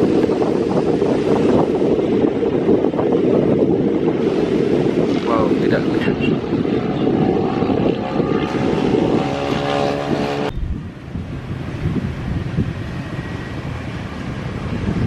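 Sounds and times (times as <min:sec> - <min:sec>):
jet airliner engines droning: 0:00.0 - 0:15.0
wind buffeting microphone: 0:00.0 - 0:15.0.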